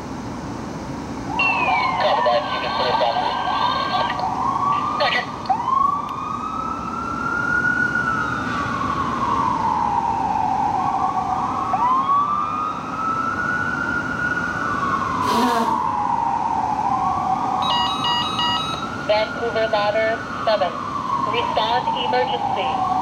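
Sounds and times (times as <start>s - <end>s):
siren wailing: 1.3s - 23.0s.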